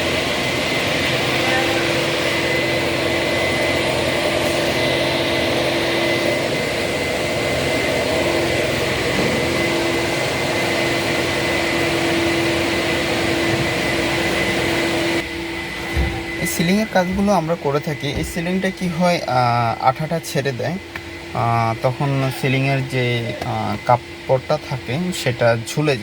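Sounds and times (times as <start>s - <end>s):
machine hissing and whining: 0.0s - 26.0s.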